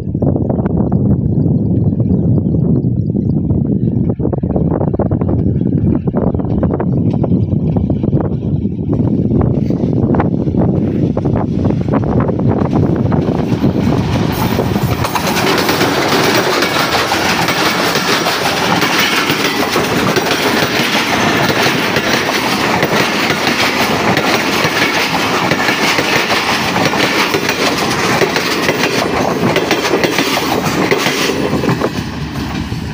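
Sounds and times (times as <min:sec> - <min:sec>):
train rumbling past: 0:00.0 - 0:32.9
wheels clattering on rails: 0:05.2 - 0:32.8.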